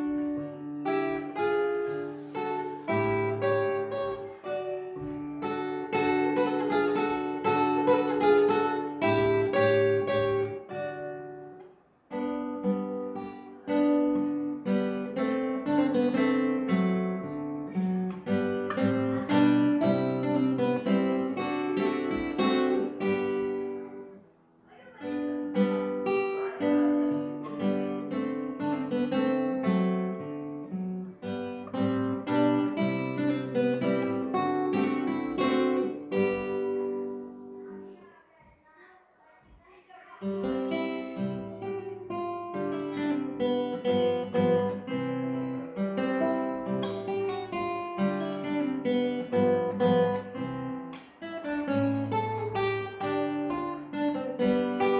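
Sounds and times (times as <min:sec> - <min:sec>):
acoustic guitar waltz: 0:00.0 - 0:54.9.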